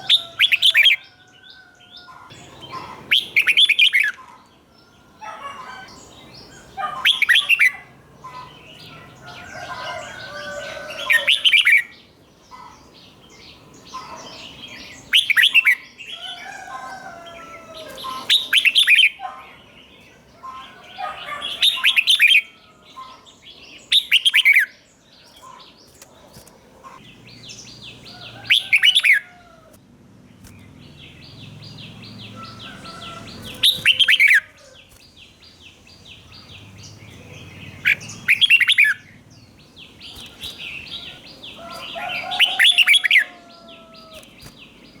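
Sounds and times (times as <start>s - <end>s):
bird song phrases: 0.0s - 45.0s.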